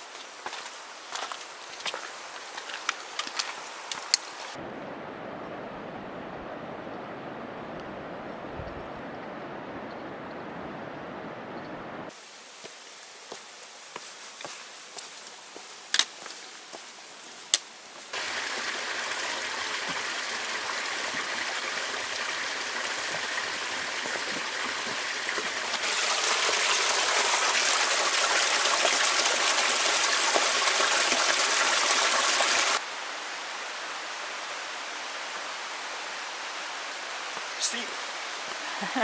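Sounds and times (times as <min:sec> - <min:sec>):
creek water rushing: 0:00.0 - 0:39.0.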